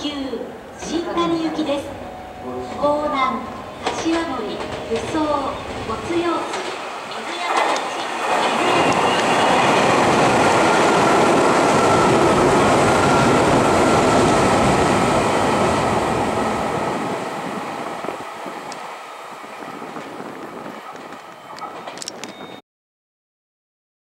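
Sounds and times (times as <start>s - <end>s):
train rushing past: 0.0s - 22.5s.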